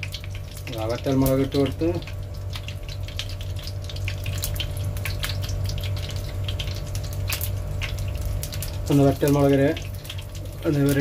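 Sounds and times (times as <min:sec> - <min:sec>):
hot oil sizzling in a frying pan: 0:00.0 - 0:11.0
sharp crackles and pops: 0:00.0 - 0:11.0
steady low hum: 0:00.0 - 0:11.0.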